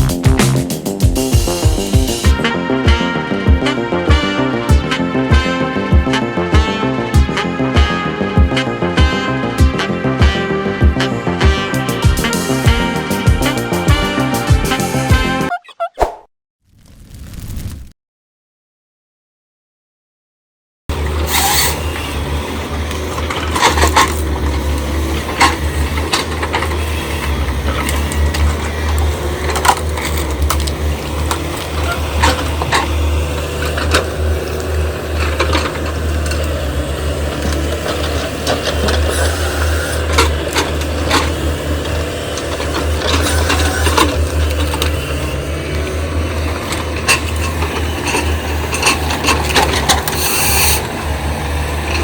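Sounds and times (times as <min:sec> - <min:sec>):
excavator diesel engine running: 0:00.0 - 0:15.9, 0:20.9 - 0:52.0.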